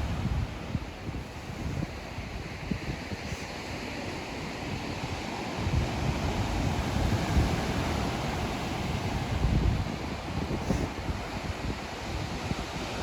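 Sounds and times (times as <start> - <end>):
ocean surf washing onto beach: 0.0 - 13.0
wind on microphone: 0.0 - 13.0.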